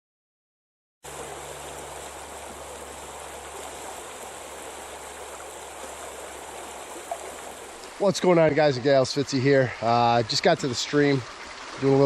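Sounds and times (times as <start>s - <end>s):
creek water rushing: 1.0s - 12.0s.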